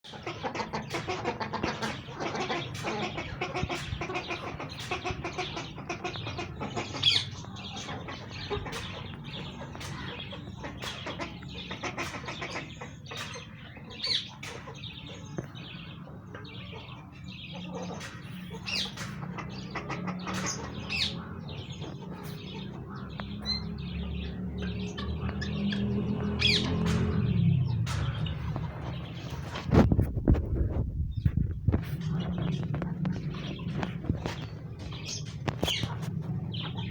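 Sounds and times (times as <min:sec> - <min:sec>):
guinea fowl and turkeys calling: 0:00.0 - 0:36.9.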